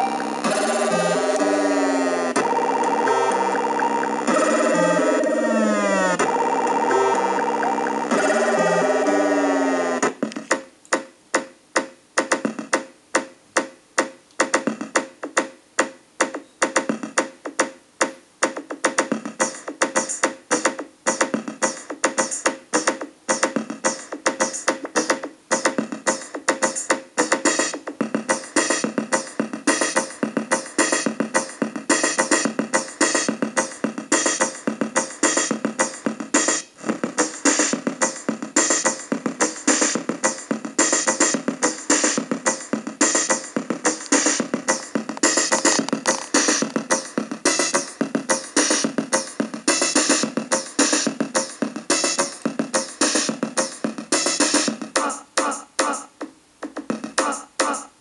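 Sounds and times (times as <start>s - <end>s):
electronic music with drum-machine beat: 0.0s - 10.6s, 18.5s - 58.0s.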